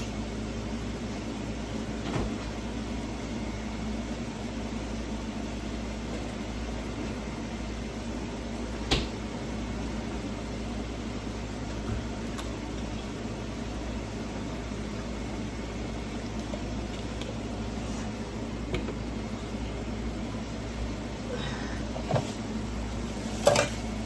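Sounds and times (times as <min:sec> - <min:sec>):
machine hum with hiss: 0:00.0 - 0:24.0.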